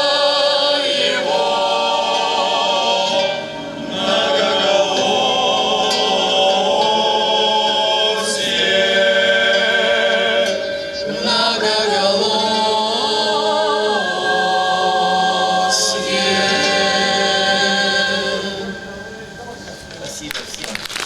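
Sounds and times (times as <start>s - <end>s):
choir singing chords: 0.0s - 20.0s.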